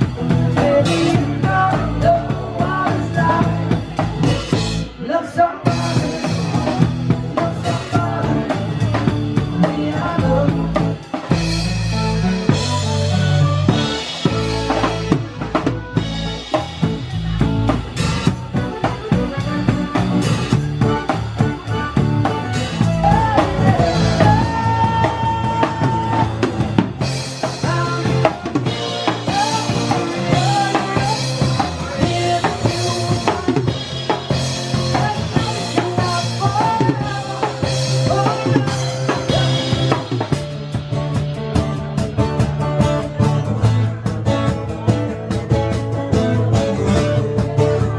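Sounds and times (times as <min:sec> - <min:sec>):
acoustic guitar: 0:00.0 - 0:47.9
drum kit: 0:00.0 - 0:47.9.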